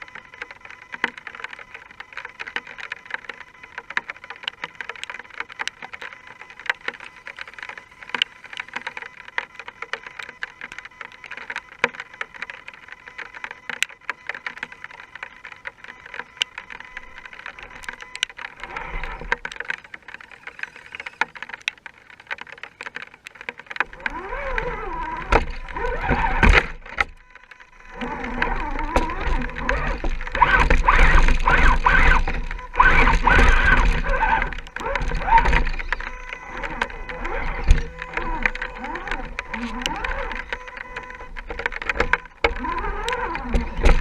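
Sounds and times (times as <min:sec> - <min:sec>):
electric motor and gears whining: 0:00.0 - 0:44.0.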